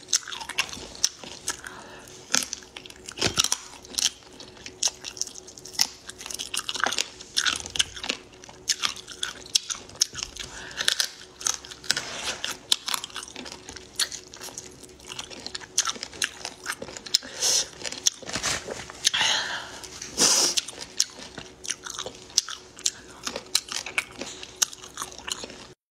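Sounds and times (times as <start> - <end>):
chewing and mouth clicks: 0.0 - 18.3, 20.5 - 25.8.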